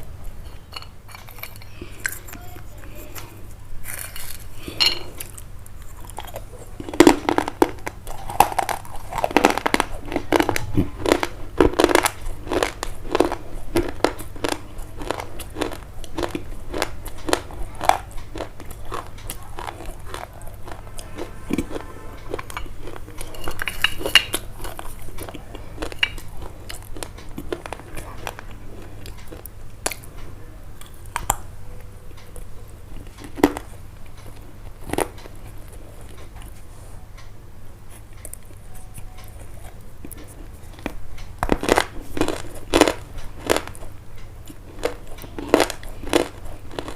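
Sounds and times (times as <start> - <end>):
low steady hum: 0.0 - 46.9
crisp crunching: 1.1 - 30.1, 37.9 - 46.9.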